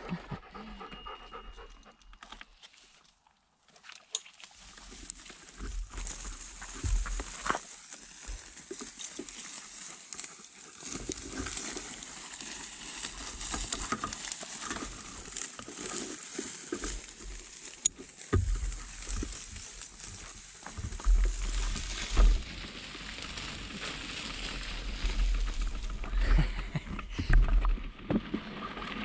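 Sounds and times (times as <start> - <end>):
bike tyres crunching on dirt: 3.8 - 29.0.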